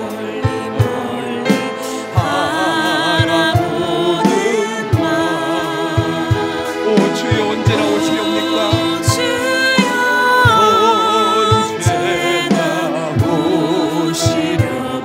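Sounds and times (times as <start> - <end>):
hymn with instrumental backing: 0.0 - 15.0
person singing with vibrato: 0.0 - 15.0.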